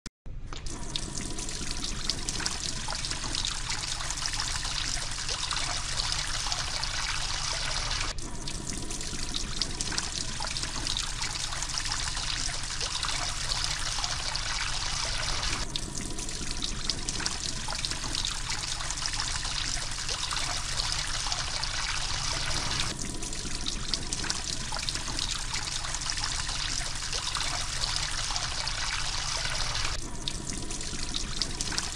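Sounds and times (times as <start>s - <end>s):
water fountain splashing: 0.7s - 31.9s.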